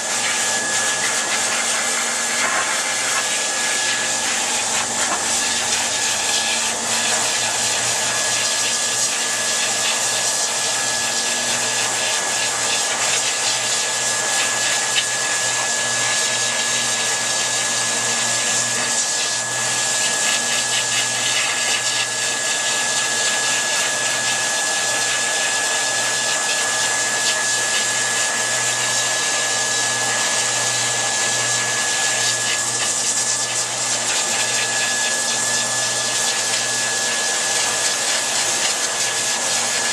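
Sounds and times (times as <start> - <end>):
grooming dryer blowing air: 0.0 - 39.9
high motor whine: 0.0 - 39.9.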